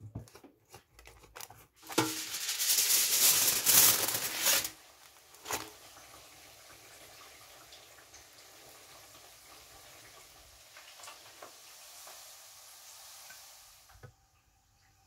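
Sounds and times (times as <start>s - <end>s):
faint hissing crackle: 1.8s - 14.9s.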